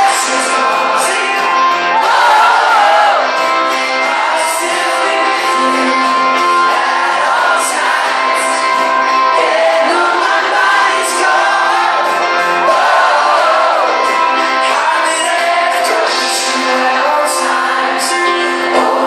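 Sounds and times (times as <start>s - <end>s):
man singing: 0.0s - 3.2s, 4.0s - 19.0s.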